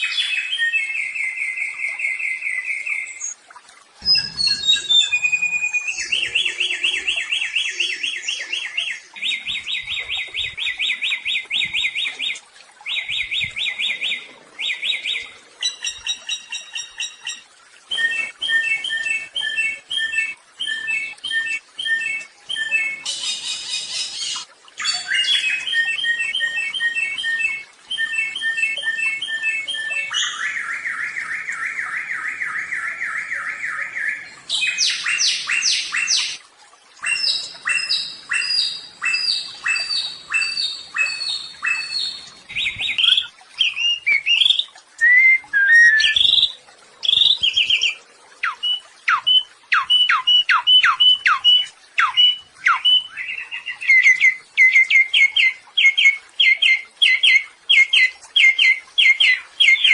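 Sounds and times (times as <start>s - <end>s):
songbird singing: 0.0s - 3.4s, 4.0s - 36.4s, 37.0s - 59.9s.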